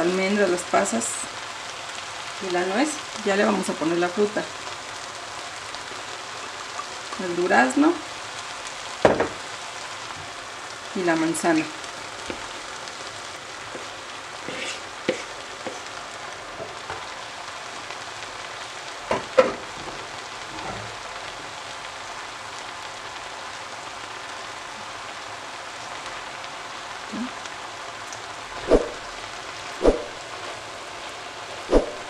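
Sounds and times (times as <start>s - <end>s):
meat sizzling in a pan: 0.0s - 32.0s.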